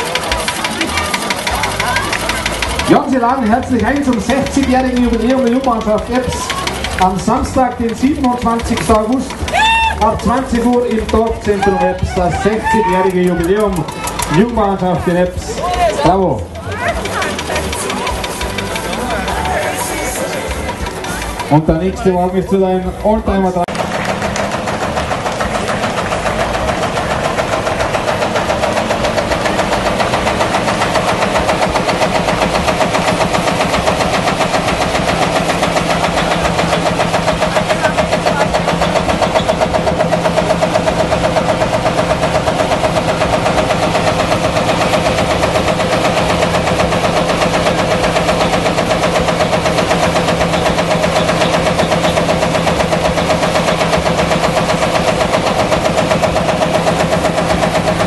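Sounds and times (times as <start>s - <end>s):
tractor engine thumping: 0.0s - 58.0s.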